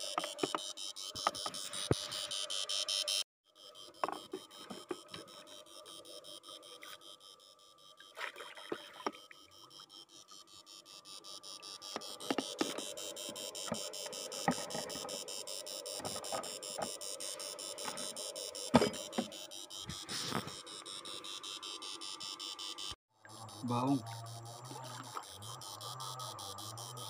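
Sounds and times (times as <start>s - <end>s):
electrofishing inverter pulsing buzz: 0.0s - 27.0s.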